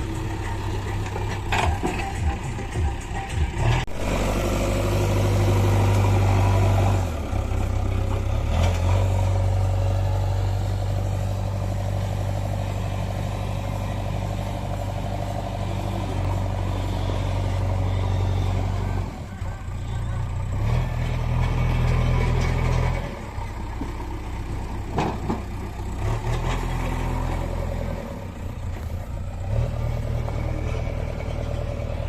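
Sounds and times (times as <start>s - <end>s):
heavy vehicle engine humming: 0.0s - 32.0s.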